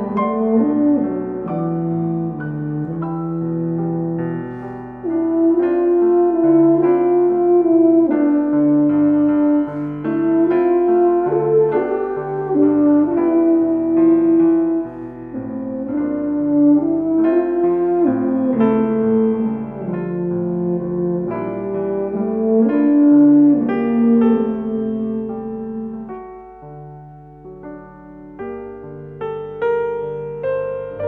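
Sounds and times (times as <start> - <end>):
piano accompaniment: 0.0 - 31.0
tuba sustained melody: 0.0 - 31.0.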